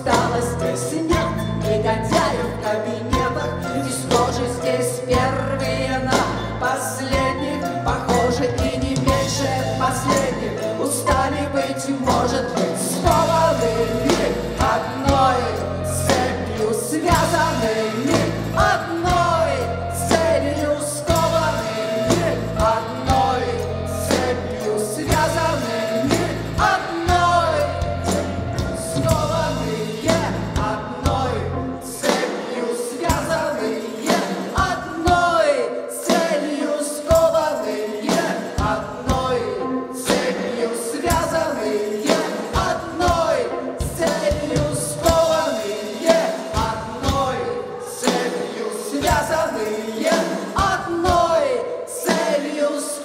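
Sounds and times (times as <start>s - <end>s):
rock band playing live: 0.0s - 52.6s
many voices singing together: 0.0s - 53.0s.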